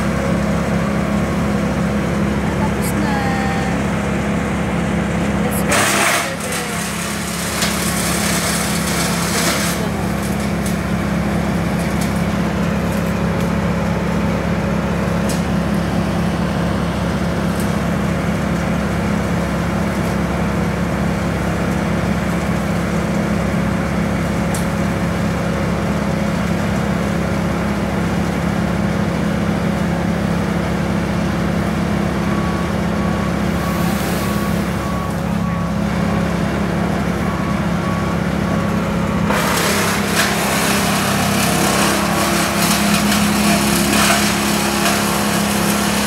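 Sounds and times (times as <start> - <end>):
heavy engine droning: 0.0 - 46.0.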